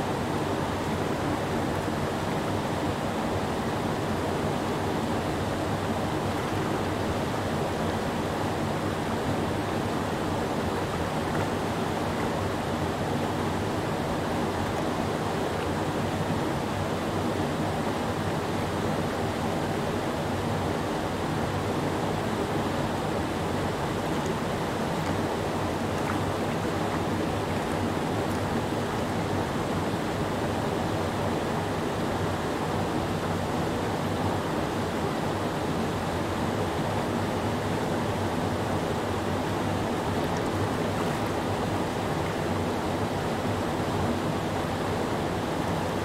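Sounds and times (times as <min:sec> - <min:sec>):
whitewater rushing over rocks: 0:00.0 - 0:46.0.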